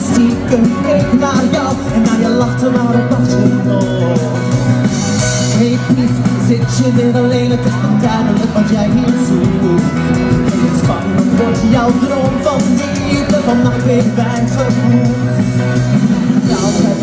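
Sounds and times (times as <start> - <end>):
live pop band with singing: 0.0 - 17.0.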